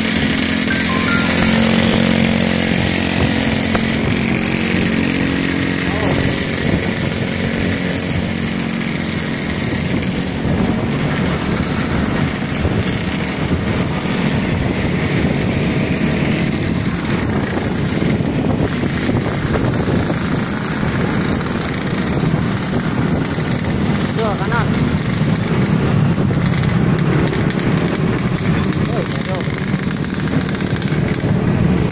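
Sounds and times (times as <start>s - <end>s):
motorcycle engines running: 0.0s - 31.9s.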